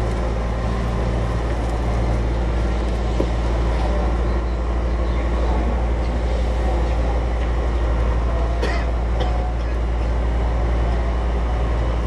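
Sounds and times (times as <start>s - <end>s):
train car rumble and hum: 0.0s - 12.0s.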